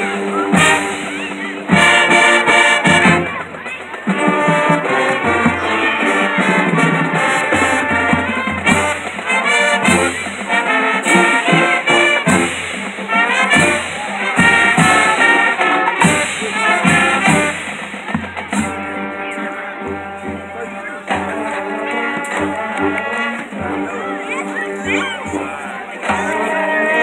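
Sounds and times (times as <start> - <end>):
marching band brass tune: 0.0 - 27.0
percussion hits: 0.0 - 27.0.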